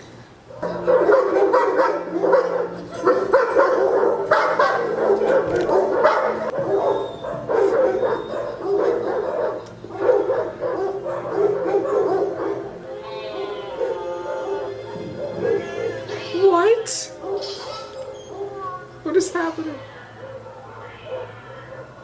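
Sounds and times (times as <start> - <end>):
dog barking: 0.5 - 12.8, 13.8 - 16.0, 17.2 - 18.9, 20.2 - 22.0.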